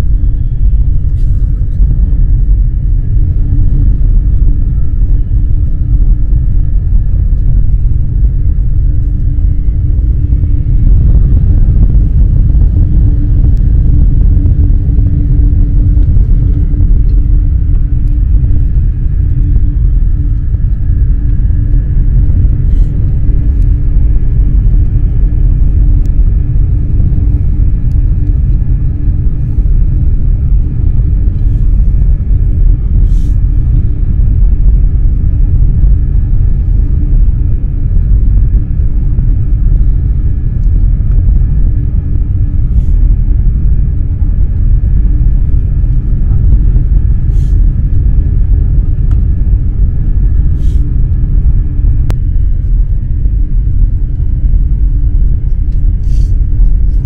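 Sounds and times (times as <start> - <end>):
faint steady whine: 0.0 - 57.0
train rumble inside carriage: 0.0 - 57.0.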